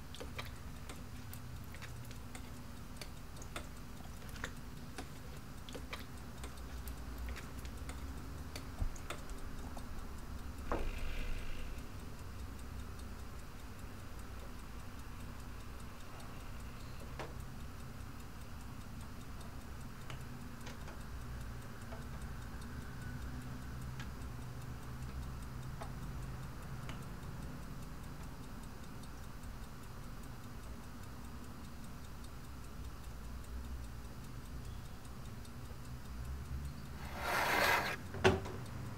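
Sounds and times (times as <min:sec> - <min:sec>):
clock ticking: 0:00.0 - 0:10.7, 0:11.8 - 0:38.0.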